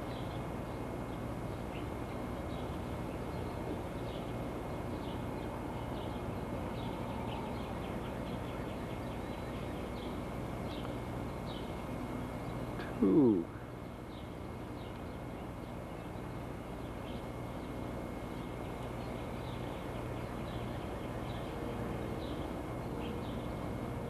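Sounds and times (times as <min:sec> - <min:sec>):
birds chirping: 0:00.0 - 0:24.0
low hum: 0:00.0 - 0:24.0.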